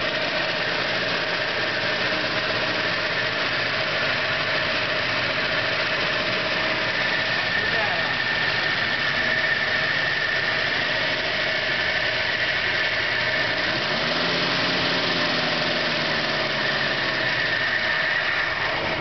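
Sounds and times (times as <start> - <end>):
car engine running: 0.0 - 19.0
high-pitched whine: 0.0 - 19.0.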